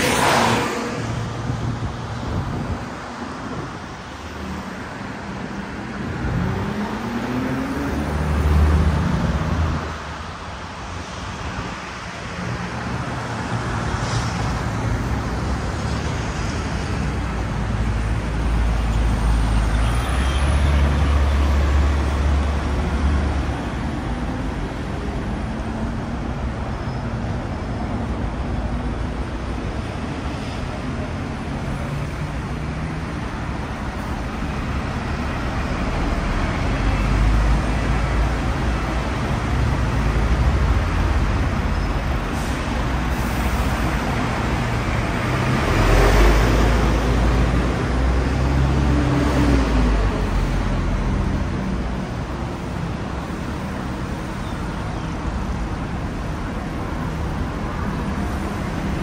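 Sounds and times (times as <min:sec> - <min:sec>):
cars passing: 0:00.0 - 0:59.0
deep engine of large vehicles: 0:00.0 - 0:59.0.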